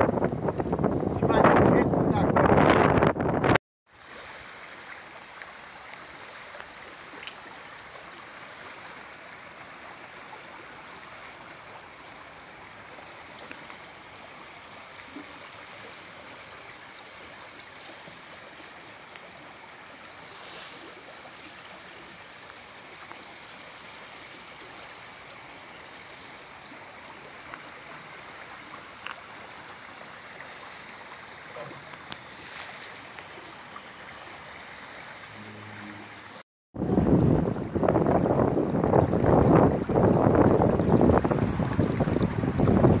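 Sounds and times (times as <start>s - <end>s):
rushing floodwater: 3.9s - 43.0s.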